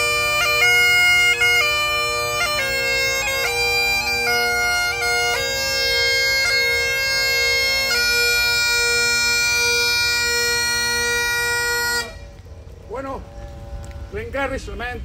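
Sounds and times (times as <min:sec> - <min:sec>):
bagpipe playing slow lament: 0:00.0 - 0:12.4.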